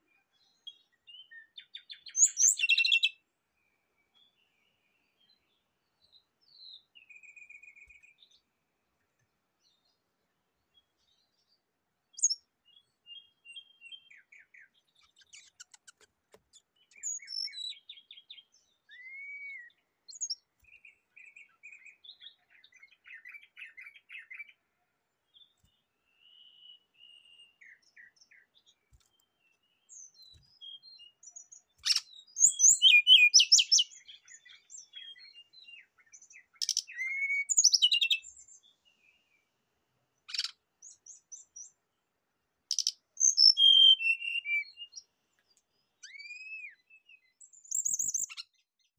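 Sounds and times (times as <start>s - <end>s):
bird singing chirps and trills: 0.0s - 8.5s, 10.7s - 24.6s, 25.3s - 39.5s, 40.2s - 41.9s, 42.7s - 48.9s.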